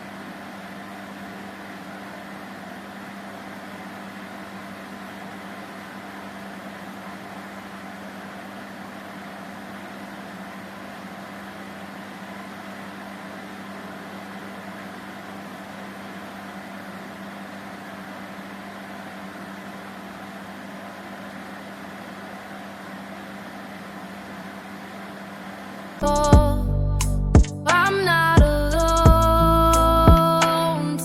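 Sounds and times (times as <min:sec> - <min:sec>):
electric fan motor humming: 0:00.0 - 0:31.0.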